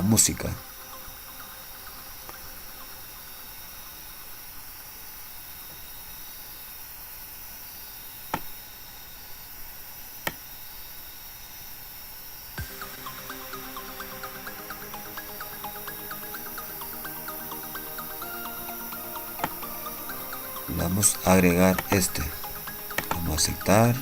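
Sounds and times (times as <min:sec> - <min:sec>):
faint microphone hiss: 0:00.0 - 0:24.0.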